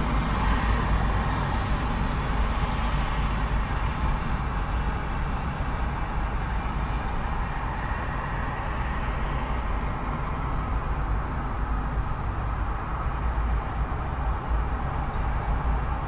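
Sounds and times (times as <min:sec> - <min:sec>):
passing vehicle hiss: 0:00.0 - 0:16.0
road traffic rumble: 0:00.0 - 0:16.0.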